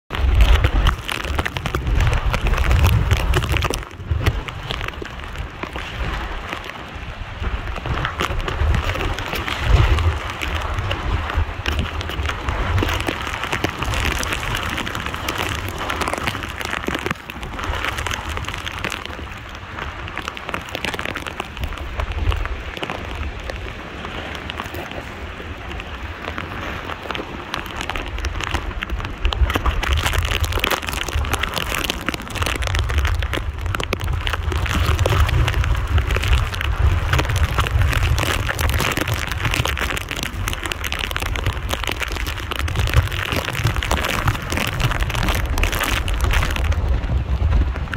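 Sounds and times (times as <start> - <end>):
heavy rain pouring: 0.1 - 47.9
wind rumbling on microphone: 0.1 - 47.9.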